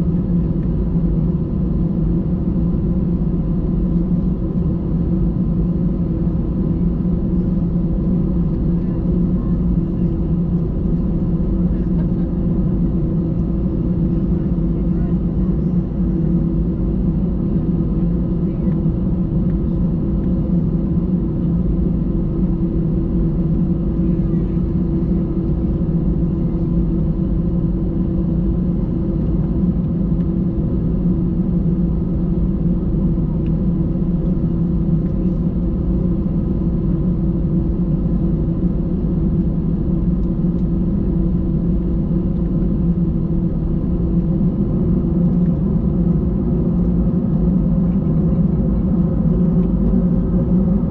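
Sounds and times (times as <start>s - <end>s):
airplane cabin engine drone: 0.0s - 50.9s.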